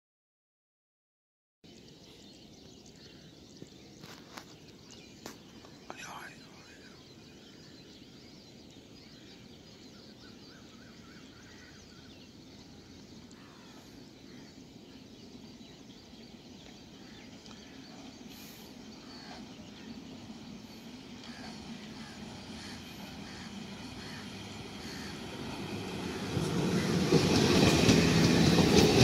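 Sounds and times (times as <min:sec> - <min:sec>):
birds chirping: 0:01.7 - 0:29.0
electric train rumble: 0:01.7 - 0:29.0.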